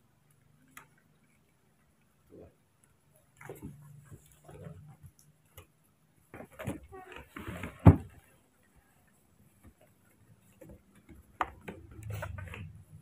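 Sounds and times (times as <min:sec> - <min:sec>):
faint clicks and taps: 0:00.0 - 0:07.5, 0:08.1 - 0:13.0.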